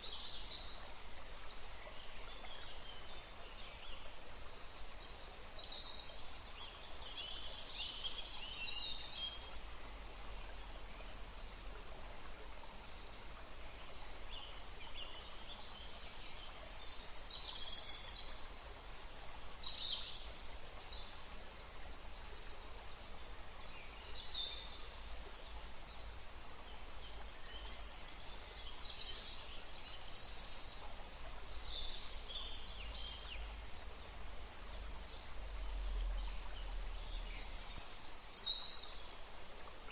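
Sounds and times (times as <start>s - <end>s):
low background noise: 0.0s - 39.9s
songbirds chirping: 0.0s - 39.9s.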